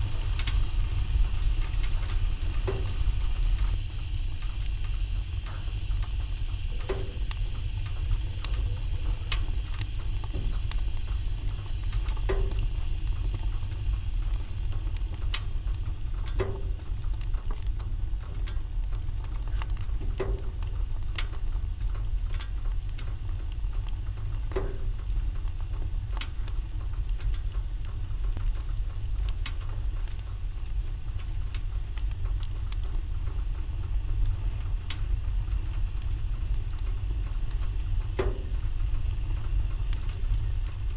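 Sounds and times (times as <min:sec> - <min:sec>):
low fire rumble: 0:00.0 - 0:40.9
wood fire crackling and popping: 0:00.0 - 0:40.9.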